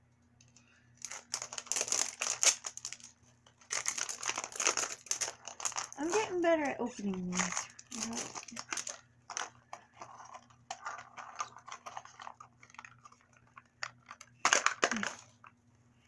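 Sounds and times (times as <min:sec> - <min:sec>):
plastic pieces clicking: 0:01.0 - 0:03.1, 0:03.7 - 0:06.4, 0:07.3 - 0:15.4
plastic packaging crinkling: 0:01.0 - 0:15.5.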